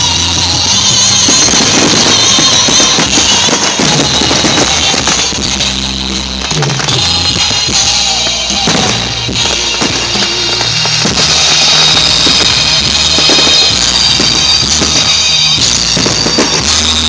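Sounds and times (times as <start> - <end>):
drum kit beat: 0.0 - 17.0
stepping bass line: 0.0 - 17.0.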